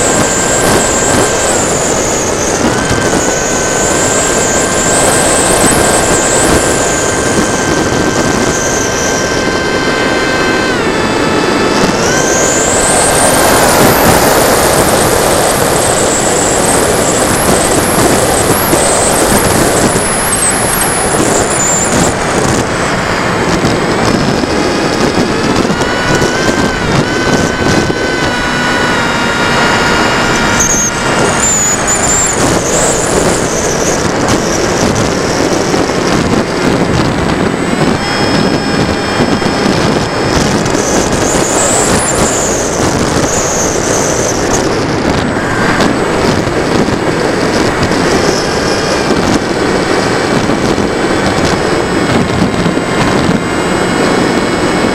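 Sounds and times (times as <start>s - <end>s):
air rushing over microphone: 0.0s - 54.9s
electric motor and propeller whine: 0.0s - 54.9s.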